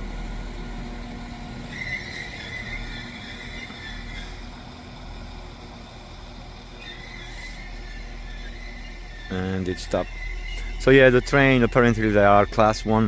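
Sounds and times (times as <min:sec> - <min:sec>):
train brakes squealing: 0:00.0 - 0:13.0
train running hum: 0:00.0 - 0:13.0.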